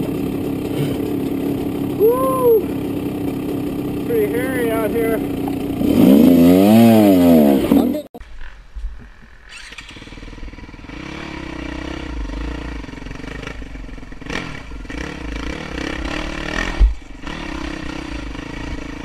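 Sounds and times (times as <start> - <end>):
dirt bike engine revving: 0.0 - 8.1, 9.5 - 19.0.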